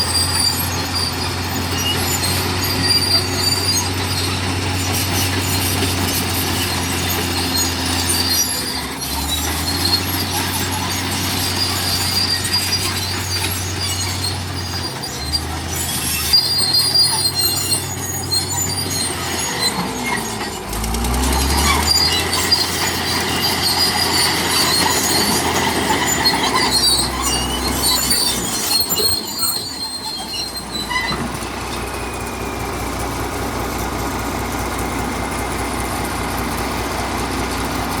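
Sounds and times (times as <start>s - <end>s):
bulldozer tracks squealing and clanking: 0.0s - 38.0s
diesel engine running: 0.0s - 38.0s.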